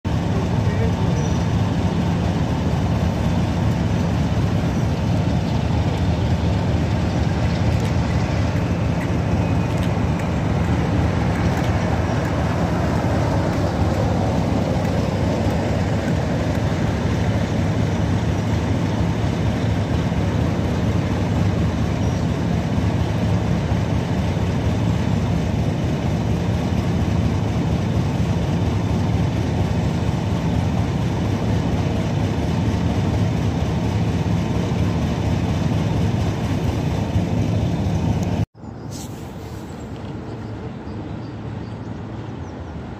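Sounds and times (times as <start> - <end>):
diesel locomotive engine drone: 0.0 - 42.9
coaches rolling past: 0.1 - 42.4.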